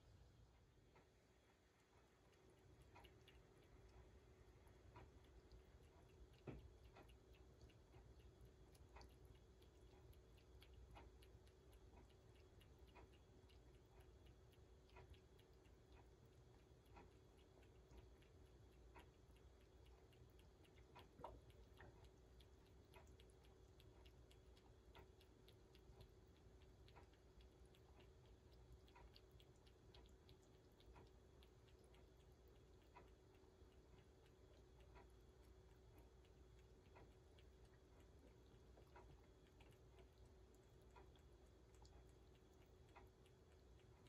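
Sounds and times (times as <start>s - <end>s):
cat mouth clicking at bowl: 1.9s - 44.0s.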